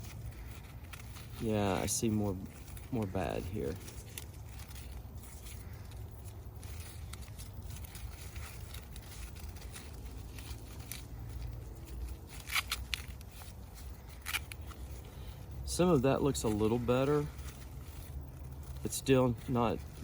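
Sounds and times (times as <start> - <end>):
corn husks tearing: 0.0 - 20.0.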